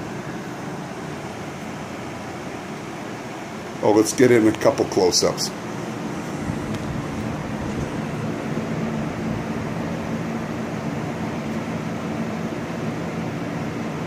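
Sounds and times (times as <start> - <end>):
fans moving air: 0.0 - 14.0.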